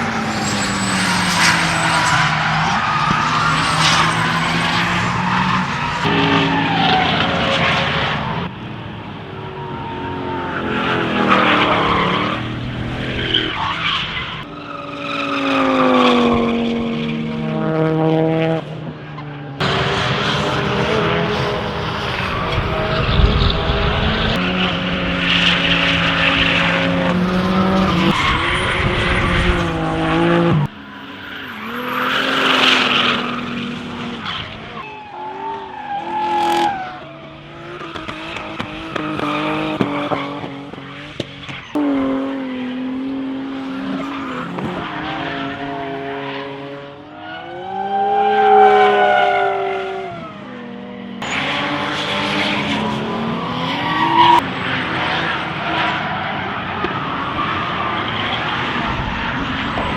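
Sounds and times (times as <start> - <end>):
tyre squeal and skidding: 0.0 - 8.5, 9.3 - 17.3, 19.1 - 42.3, 43.6 - 50.6, 51.2 - 59.9
race car engines revving: 0.0 - 59.9.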